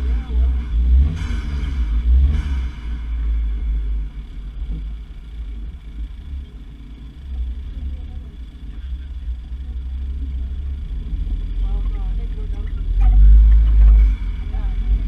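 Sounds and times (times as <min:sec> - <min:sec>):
car driving: 0:00.0 - 0:15.0.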